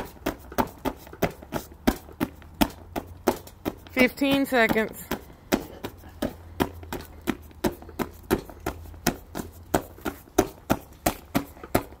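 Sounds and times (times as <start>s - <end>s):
gloves punching heavy bag: 0.0s - 12.0s.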